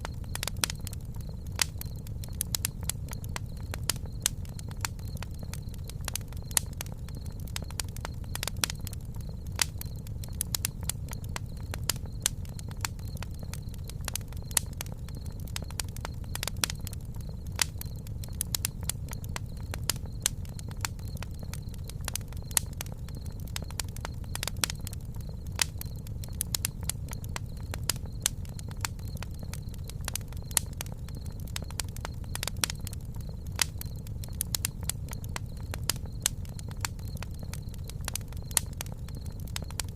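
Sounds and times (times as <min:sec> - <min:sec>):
burning wood crackling and popping: 0:00.0 - 0:39.9
fire rumbling: 0:00.0 - 0:39.9.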